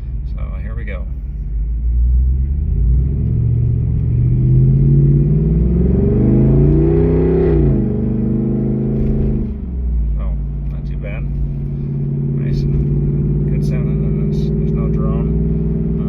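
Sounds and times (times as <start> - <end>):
car engine accelerating hard: 1.8 - 9.8, 10.6 - 16.0.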